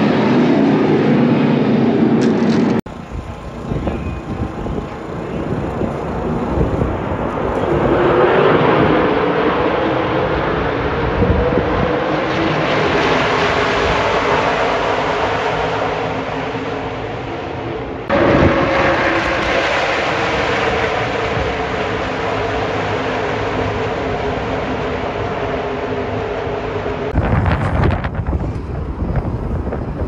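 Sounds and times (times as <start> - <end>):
race truck engines at speed: 0.0 - 30.0.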